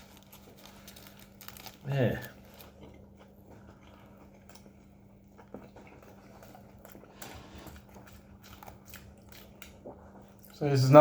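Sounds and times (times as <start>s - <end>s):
low steady hum: 0.0s - 11.0s
person chewing: 0.0s - 11.0s.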